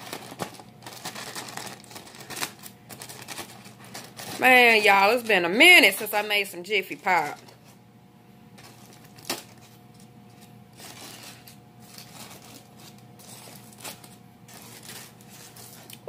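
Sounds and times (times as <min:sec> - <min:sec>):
foil pan rustling and crinkling: 0:00.0 - 0:07.8, 0:08.6 - 0:16.0.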